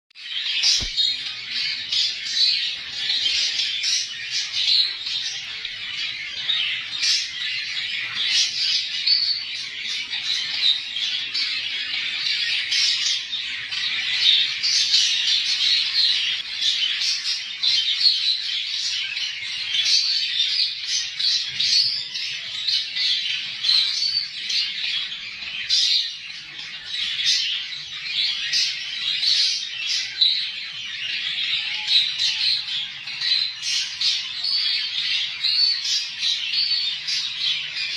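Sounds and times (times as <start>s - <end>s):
cage birds chirping: 0.1s - 37.9s.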